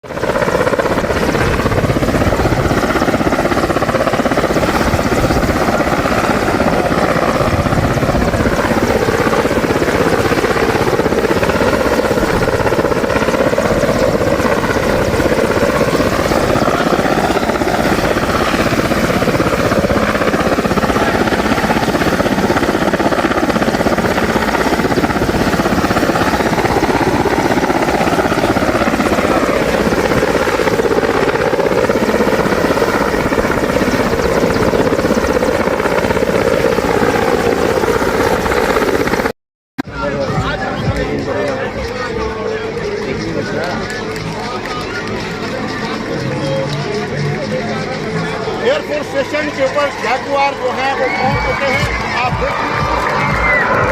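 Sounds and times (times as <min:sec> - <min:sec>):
aircraft engine rushing overhead: 0:00.0 - 0:53.9.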